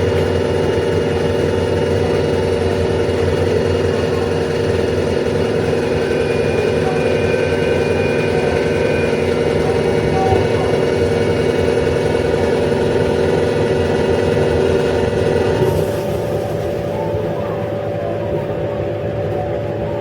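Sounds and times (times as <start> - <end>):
train coach running hum: 0.0 - 20.0.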